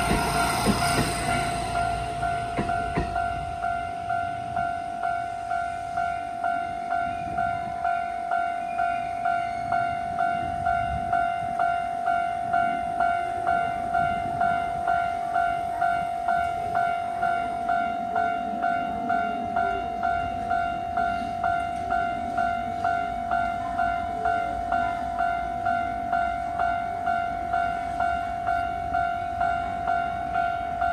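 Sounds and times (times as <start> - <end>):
level crossing warning bell: 0.0 - 30.9.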